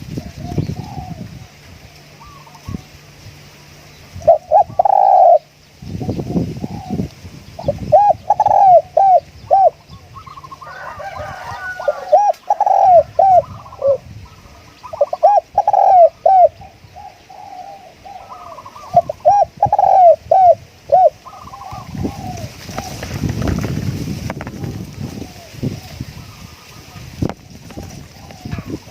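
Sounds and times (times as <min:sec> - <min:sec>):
dove cooing: 0:00.1 - 0:02.9, 0:04.2 - 0:23.6, 0:24.5 - 0:28.9.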